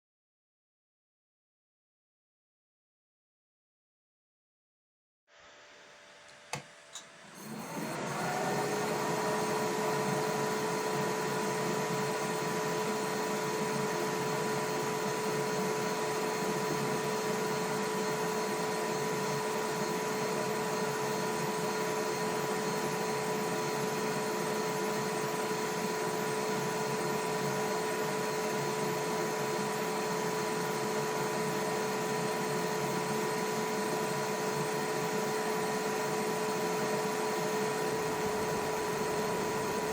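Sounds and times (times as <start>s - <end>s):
laser engraver fan rush: 7.4s - 39.9s.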